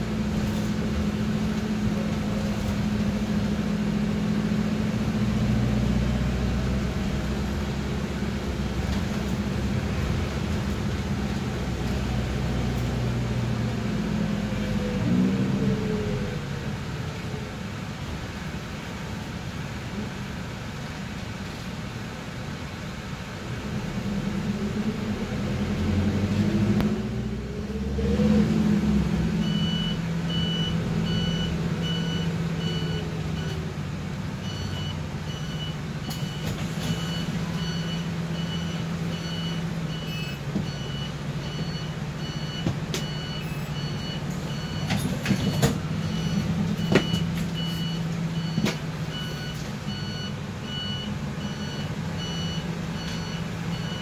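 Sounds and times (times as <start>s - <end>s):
minibus engine hum: 0.0s - 54.0s.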